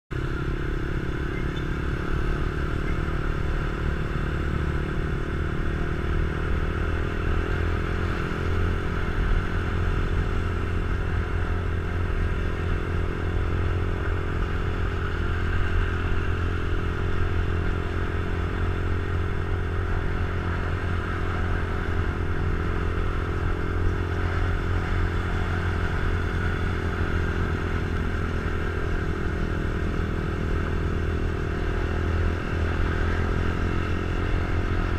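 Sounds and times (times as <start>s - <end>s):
motorcycle engine running steadily: 0.1s - 34.9s.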